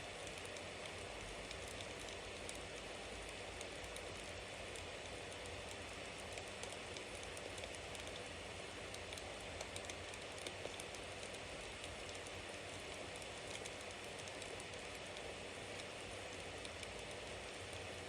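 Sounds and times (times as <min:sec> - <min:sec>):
burning wood crackling and popping: 0:00.2 - 0:18.0.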